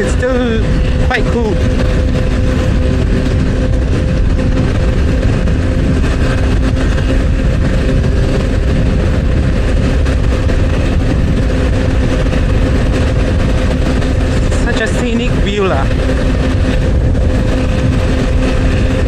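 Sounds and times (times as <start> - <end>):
heavy wind: 0.0 - 19.0
motorcycle engine cruising: 0.0 - 19.0
road rumble: 0.0 - 19.0.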